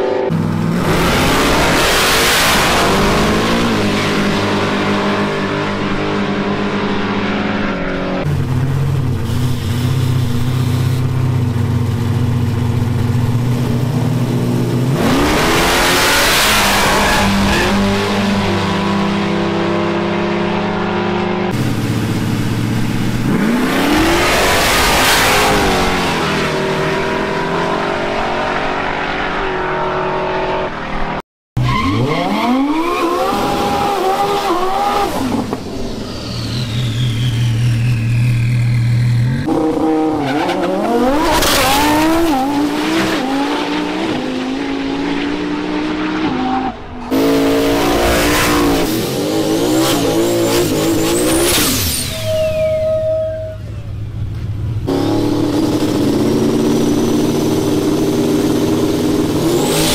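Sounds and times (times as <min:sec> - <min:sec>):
cars accelerating at full throttle: 0:00.0 - 0:12.3, 0:13.0 - 0:59.9.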